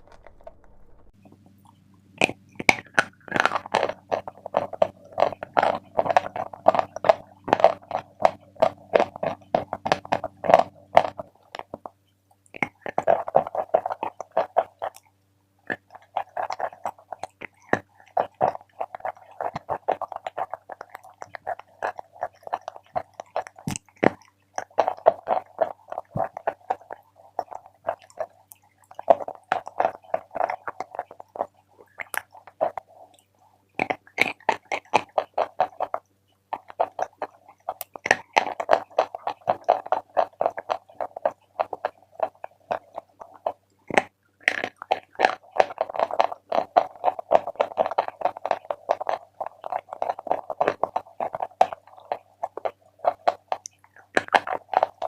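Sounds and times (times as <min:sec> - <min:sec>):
chalk crunching being chewed: 0:01.5 - 0:55.0.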